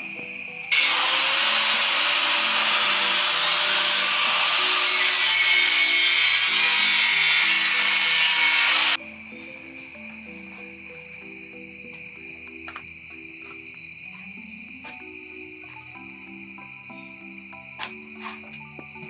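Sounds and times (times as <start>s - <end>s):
power tool grinding: 0.0s - 19.0s.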